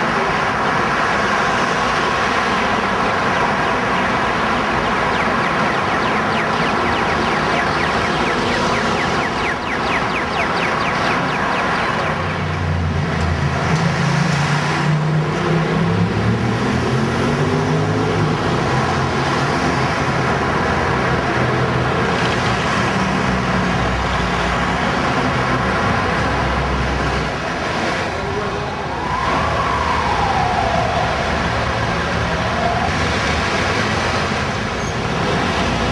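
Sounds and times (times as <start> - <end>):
city road traffic: 0.0 - 35.9
vehicle engine accelerating: 3.9 - 35.9.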